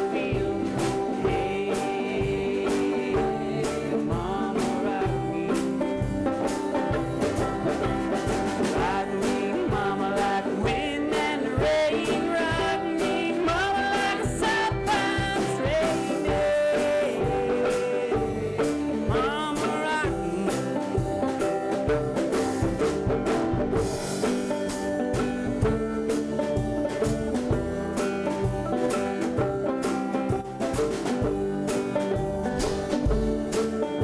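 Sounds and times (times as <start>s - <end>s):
banjo picking: 0.0s - 34.0s
ukuleles strumming: 0.0s - 34.0s.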